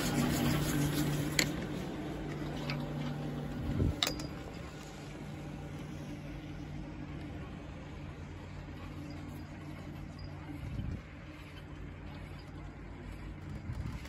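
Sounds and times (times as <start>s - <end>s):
chairlift drive humming: 0.0s - 14.0s.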